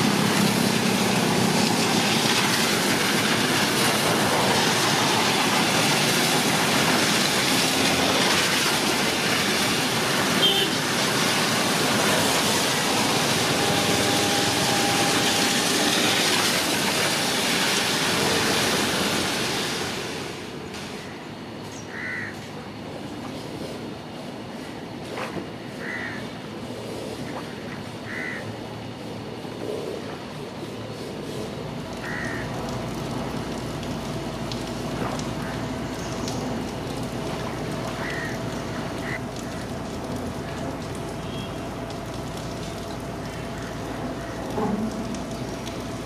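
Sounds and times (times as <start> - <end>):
train running on rails: 0.0 - 21.7, 22.4 - 46.0.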